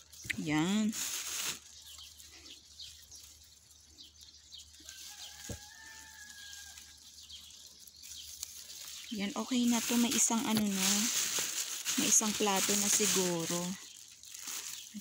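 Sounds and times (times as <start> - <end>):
rustling of leaves and twigs: 0.0 - 15.0.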